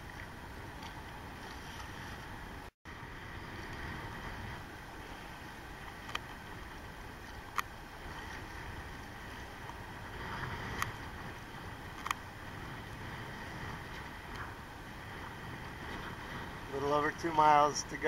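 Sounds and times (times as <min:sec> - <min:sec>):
choppy sea water: 0:00.0 - 0:18.0
wind: 0:00.0 - 0:18.0.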